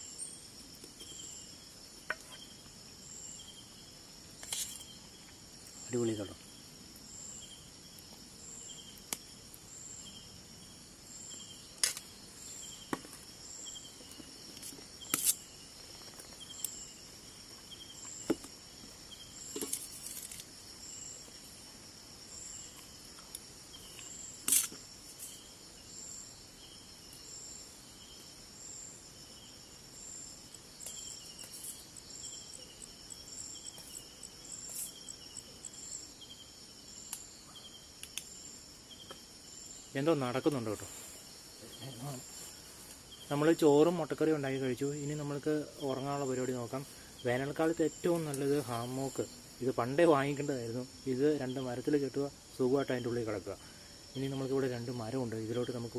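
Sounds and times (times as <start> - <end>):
crickets trilling: 0.0 - 55.9
lower pulsing insect call: 0.0 - 55.9.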